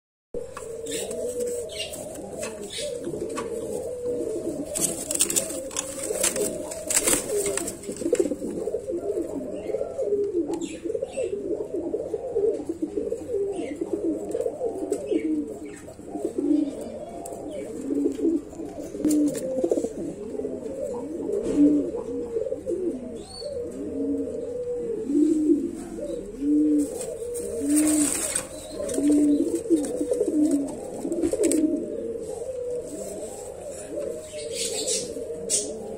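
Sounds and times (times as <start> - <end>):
pigeons cooing: 0.4 - 35.9.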